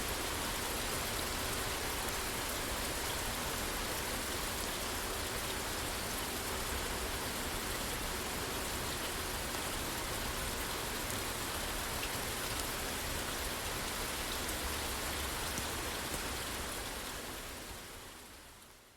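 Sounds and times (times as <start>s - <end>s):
rain falling on a roof: 0.0s - 18.9s.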